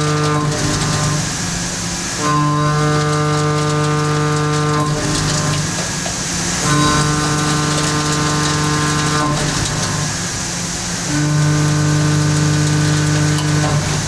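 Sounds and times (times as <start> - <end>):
hissy machine noise: 0.0 - 14.0
milling cutter humming: 0.0 - 14.0.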